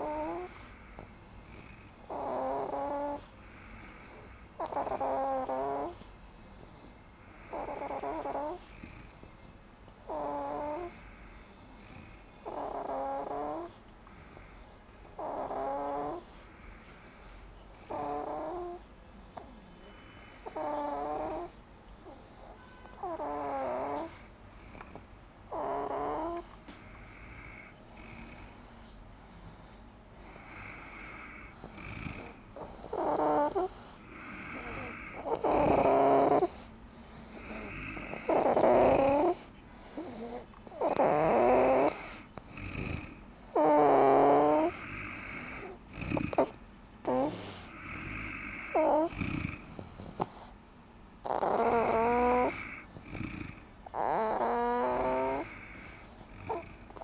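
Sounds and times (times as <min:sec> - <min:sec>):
rhythmic snoring: 0:00.0 - 0:57.0.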